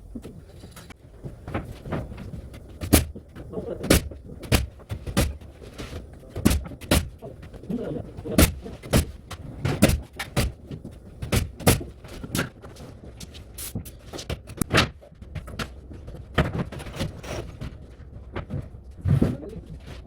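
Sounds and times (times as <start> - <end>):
carpentry knocks and clacks: 0.2 - 19.2.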